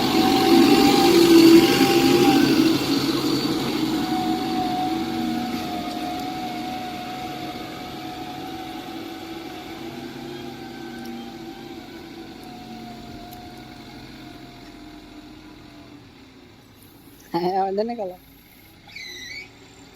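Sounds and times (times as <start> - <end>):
diesel engine whining: 0.0 - 19.9.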